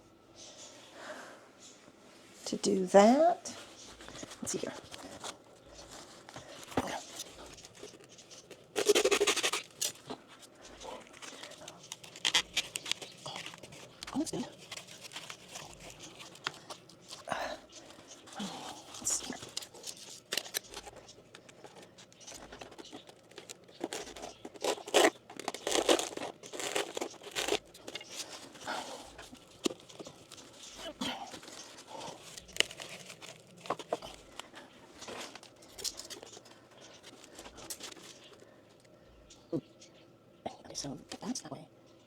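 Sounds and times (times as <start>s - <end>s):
scratchy rustle: 3.5s - 38.6s
material crinkling and tearing: 3.6s - 38.9s.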